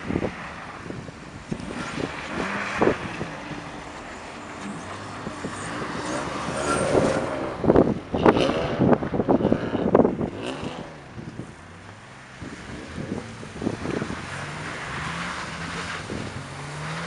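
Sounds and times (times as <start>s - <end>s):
car engines revving: 0.0s - 17.0s
wind buffeting microphone: 0.0s - 17.0s.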